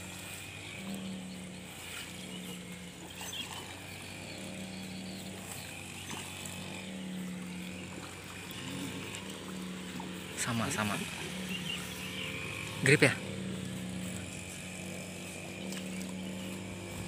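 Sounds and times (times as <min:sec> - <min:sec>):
fish splashing: 0:00.0 - 0:17.0
motor humming: 0:00.0 - 0:17.0.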